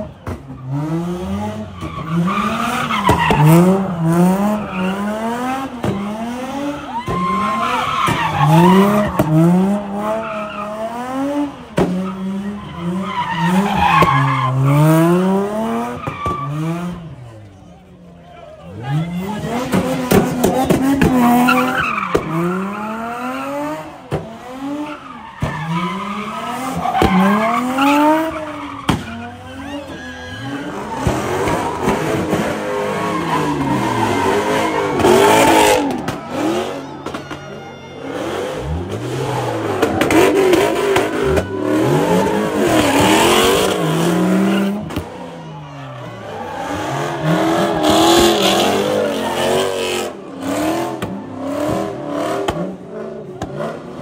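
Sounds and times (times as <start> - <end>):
car engine revving: 0.0 - 37.4, 38.0 - 54.0
tires squealing and skidding: 0.0 - 54.0.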